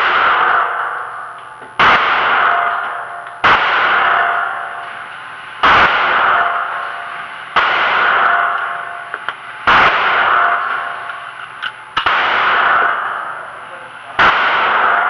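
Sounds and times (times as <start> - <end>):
handgun shots echoing: 0.0 - 13.6, 14.2 - 15.0.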